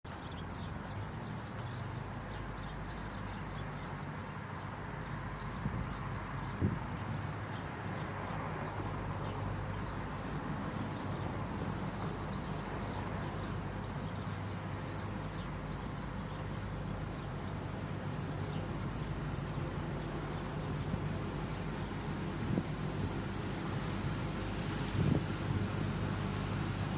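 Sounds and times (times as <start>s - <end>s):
outdoor background rumble: 0.1s - 26.9s.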